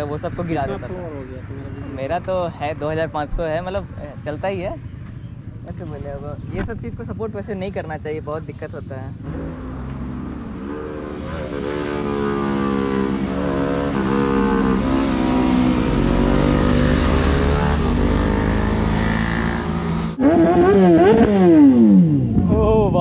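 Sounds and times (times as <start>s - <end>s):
motorcycle engines: 0.0s - 23.0s.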